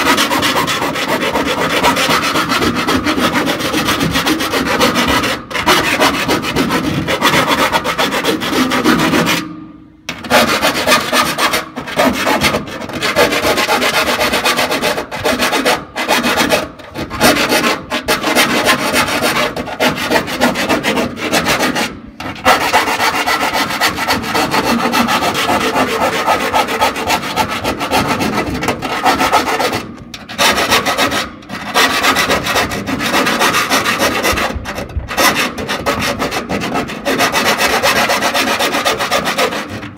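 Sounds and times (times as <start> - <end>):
rasping and scraping metal: 0.0 - 39.9.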